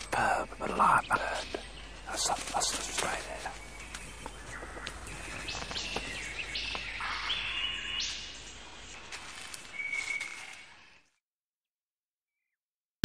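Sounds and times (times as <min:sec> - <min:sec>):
lyrebird singing varied calls: 0:00.0 - 0:10.7.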